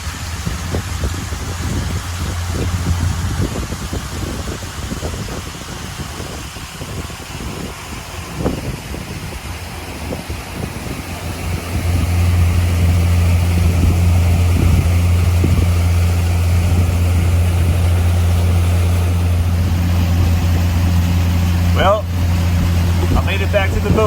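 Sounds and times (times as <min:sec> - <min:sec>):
boat engine humming: 0:00.0 - 0:24.0
water rushing: 0:00.0 - 0:24.0
wind: 0:00.0 - 0:24.0.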